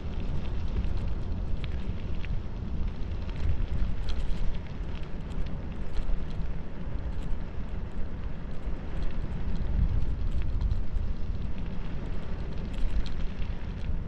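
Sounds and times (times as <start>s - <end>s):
bicycle tyres rolling on dirt: 0.0s - 14.0s
small clicks and rattles: 0.0s - 14.0s
wind buffeting microphone: 0.0s - 14.0s.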